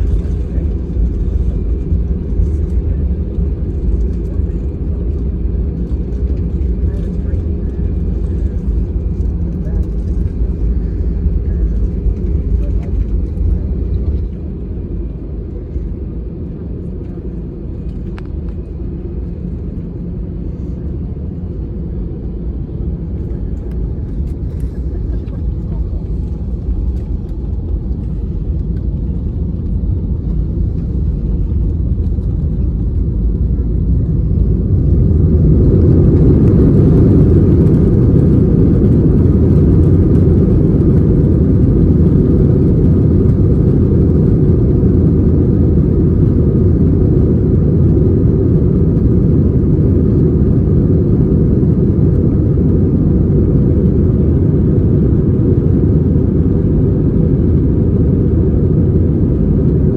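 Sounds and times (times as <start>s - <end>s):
jet engines from inside cabin: 0.0s - 59.9s.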